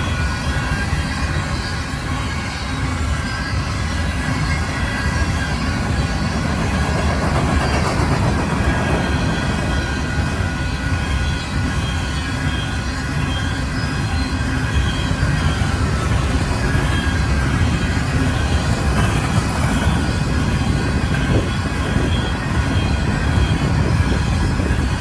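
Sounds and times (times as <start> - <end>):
high wheel squealing: 0.0 - 25.0
train wheels rumbling on rail: 0.0 - 25.0.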